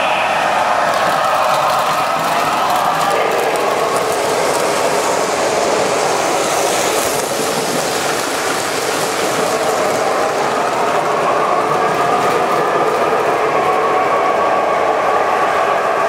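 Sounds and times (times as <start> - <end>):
model train running on rails: 0.0 - 16.0.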